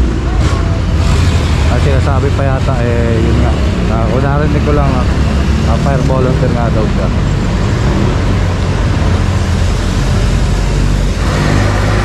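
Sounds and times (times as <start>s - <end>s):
street traffic noise: 0.0s - 12.0s
vehicle engine running: 0.0s - 12.0s.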